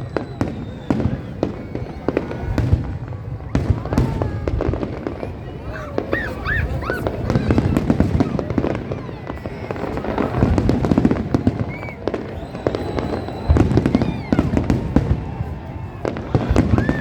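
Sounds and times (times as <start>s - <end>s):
firework whistle: 0.0s - 5.1s, 5.7s - 17.0s
fireworks crackling and banging: 0.0s - 17.0s.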